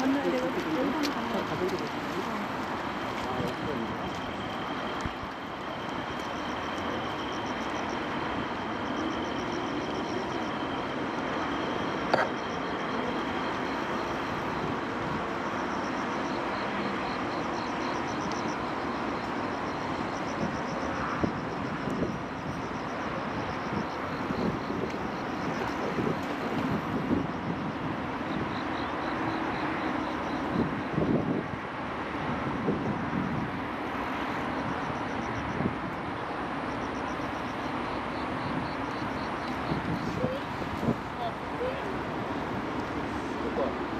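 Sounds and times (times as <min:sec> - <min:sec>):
insects chirping: 0:00.0 - 0:31.7, 0:32.5 - 0:43.9
traffic noise: 0:00.0 - 0:43.9.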